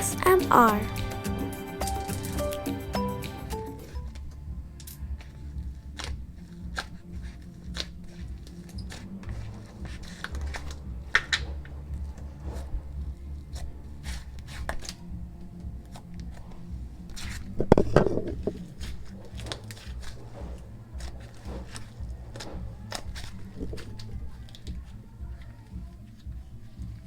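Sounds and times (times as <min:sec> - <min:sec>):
slime squishing: 0:04.1 - 0:27.0.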